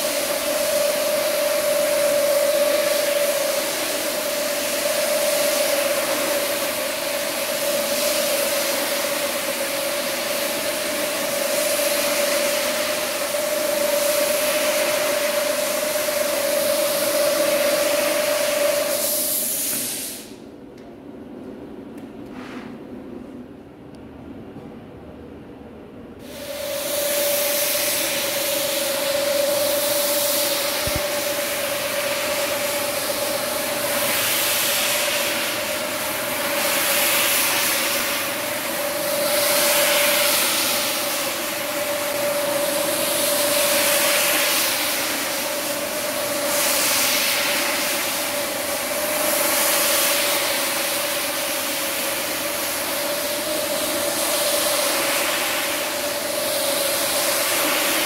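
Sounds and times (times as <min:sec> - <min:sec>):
carpet scrubbing machine motor hum: 0:00.0 - 0:19.8, 0:26.2 - 0:58.0.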